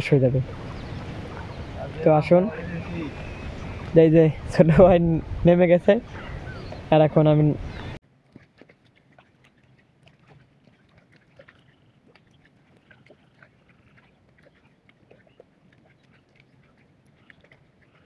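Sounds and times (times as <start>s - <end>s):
mud and water splashes: 0.0s - 18.0s.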